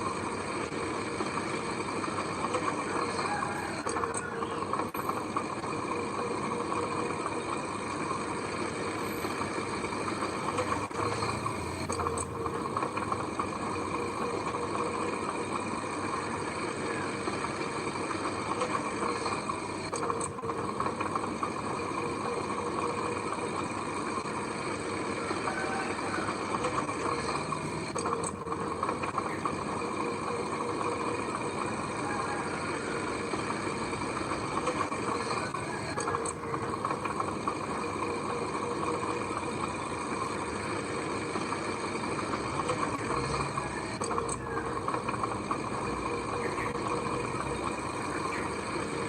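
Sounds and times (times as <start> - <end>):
heavy machine engine running: 0.0 - 49.0.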